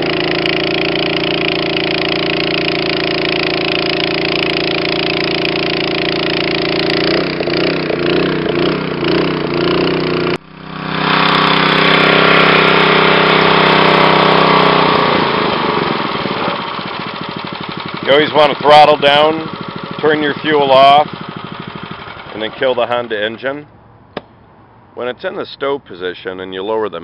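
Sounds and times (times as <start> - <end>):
small gas engine running: 0.0 - 24.3.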